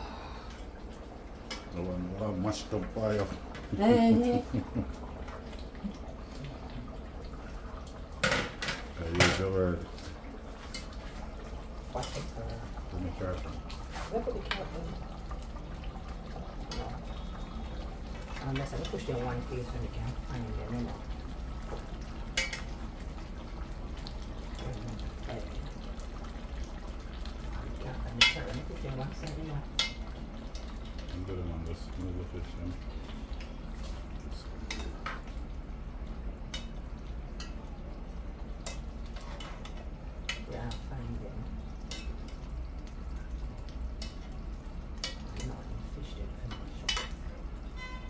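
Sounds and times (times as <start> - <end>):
stew simmering in a pot: 0.0 - 48.0.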